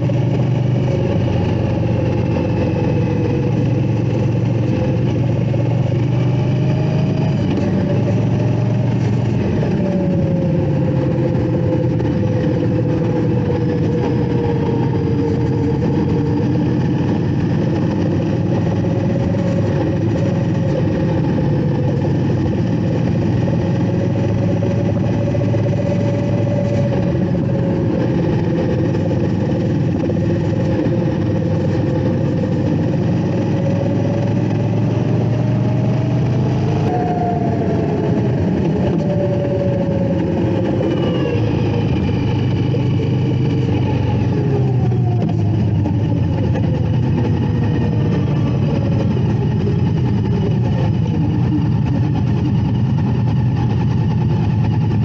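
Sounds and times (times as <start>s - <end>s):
motorcycle engine running: 0.0s - 55.0s
other motorcycles running: 0.0s - 55.0s.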